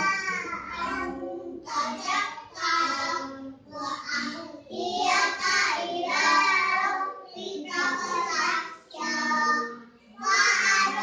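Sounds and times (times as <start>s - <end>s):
child chanting melodically: 0.0s - 11.0s.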